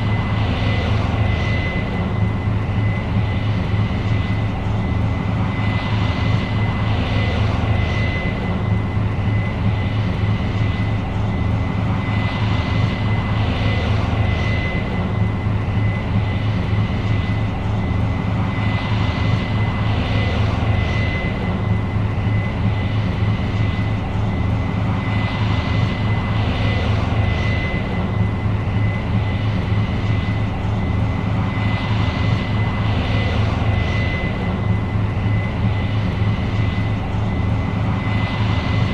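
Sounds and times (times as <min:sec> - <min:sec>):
combine engine drone: 0:00.0 - 0:38.9
high whine: 0:00.0 - 0:38.9.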